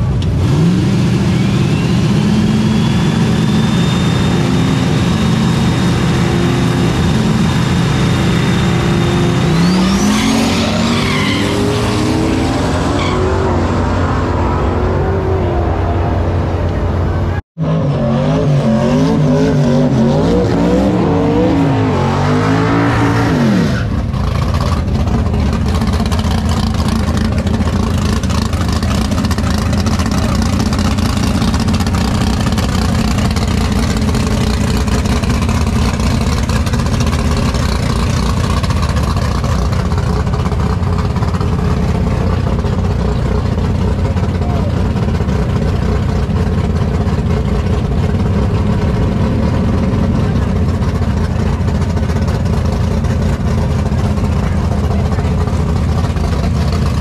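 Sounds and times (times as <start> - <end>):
drag car engine revving: 0.0 - 57.0.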